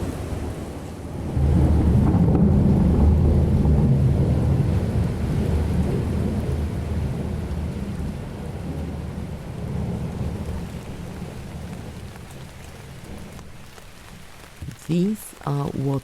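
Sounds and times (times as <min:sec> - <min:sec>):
rain falling: 0:00.0 - 0:16.0
thunder rumbling: 0:00.1 - 0:13.6.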